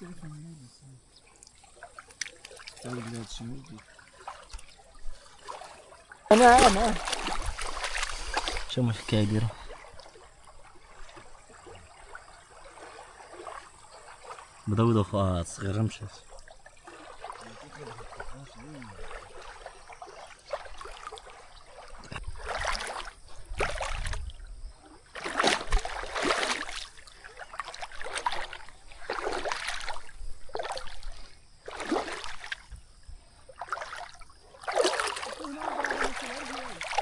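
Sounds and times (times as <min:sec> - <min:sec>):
river water splashing: 0:00.0 - 0:37.0.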